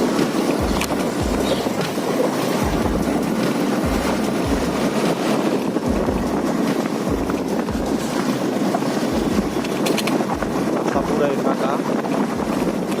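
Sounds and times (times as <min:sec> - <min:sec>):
motorcycle engine and road noise: 0:00.0 - 0:13.0
wind on microphone: 0:00.0 - 0:13.0.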